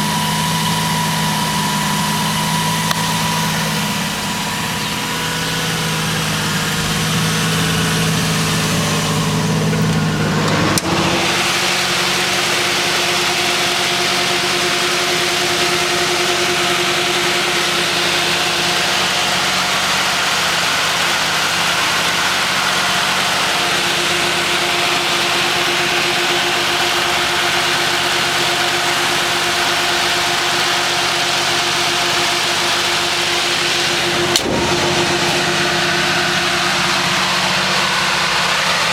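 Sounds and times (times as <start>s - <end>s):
turbocharged engine running: 0.0s - 38.9s.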